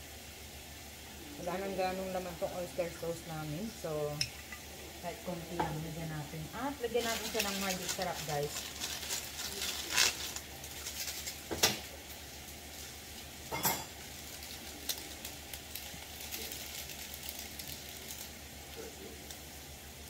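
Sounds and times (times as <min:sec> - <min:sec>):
vegetables sizzling in a frying pan: 0:00.0 - 0:20.0.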